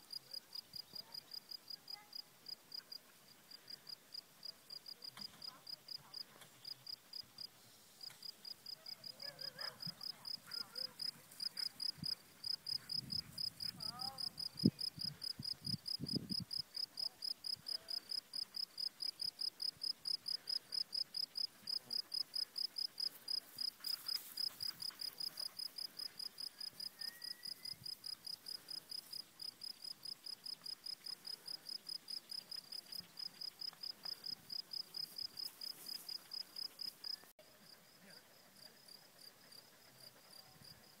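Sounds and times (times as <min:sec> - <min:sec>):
cricket chirping: 0:03.6 - 0:37.3.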